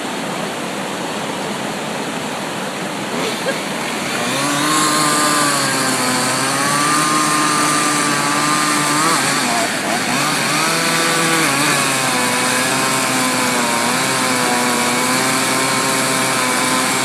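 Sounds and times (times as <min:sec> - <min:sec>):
rushing river water: 0:00.0 - 0:17.0
chainsaw engine running: 0:03.0 - 0:17.0.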